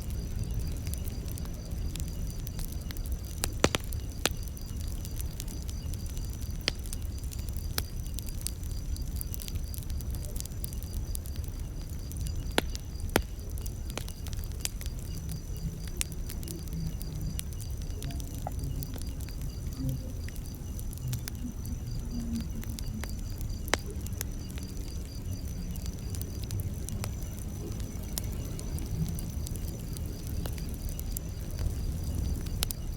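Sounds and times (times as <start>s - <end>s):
campfire crackling and popping: 0.0s - 32.9s
crickets trilling: 0.0s - 32.9s.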